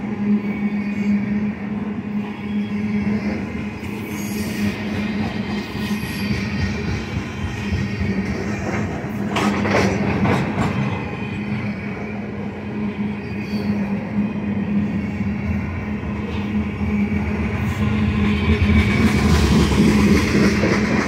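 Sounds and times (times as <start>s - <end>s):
steel wheels rumbling on rails: 0.0s - 21.0s.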